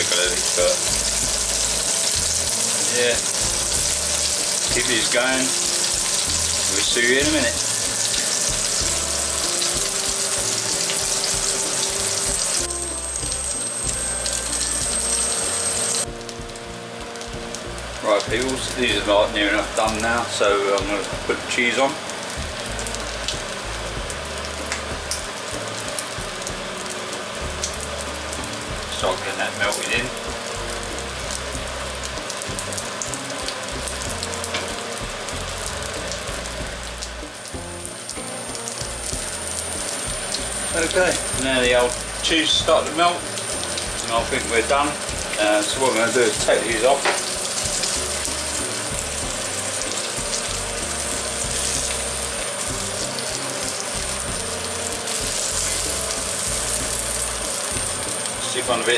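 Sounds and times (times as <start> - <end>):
background music: 0.0 - 58.9
burger patties sizzling: 0.0 - 58.9.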